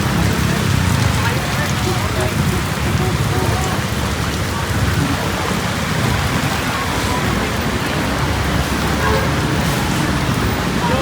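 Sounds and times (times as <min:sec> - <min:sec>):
road traffic: 0:00.0 - 0:11.0
steady rain falling: 0:00.0 - 0:11.0.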